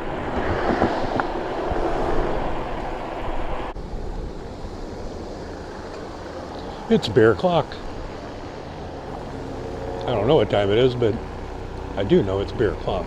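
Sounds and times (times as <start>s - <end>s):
bicycle road and wind noise: 0.0s - 13.0s.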